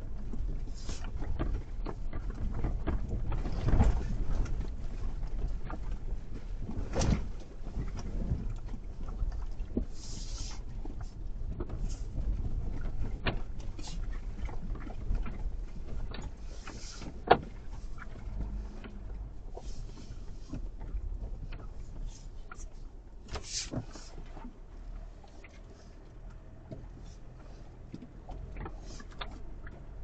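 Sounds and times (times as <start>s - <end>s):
vehicle rumbling: 0.0s - 30.0s.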